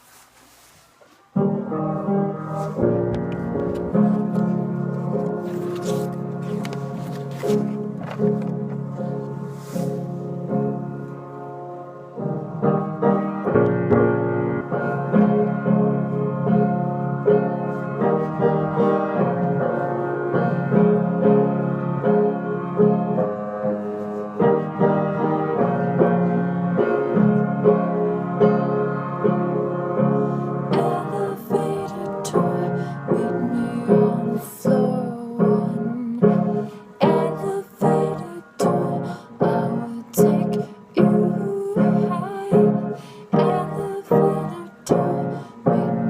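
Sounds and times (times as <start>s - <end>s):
instrumental music: 0.0s - 46.0s.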